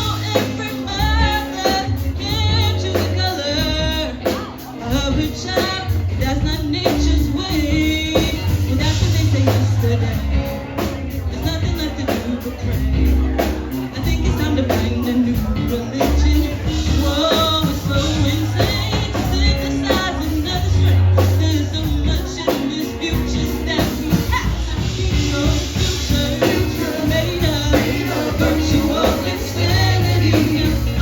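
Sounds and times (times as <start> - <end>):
deep bass notes: 0.0 - 31.0
person singing: 0.0 - 31.0
steady drum beat: 0.0 - 31.0.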